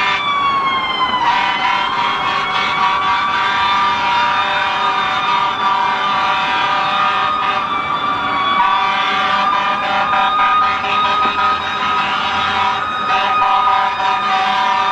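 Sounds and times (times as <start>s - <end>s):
several emergency sirens: 0.0s - 14.9s.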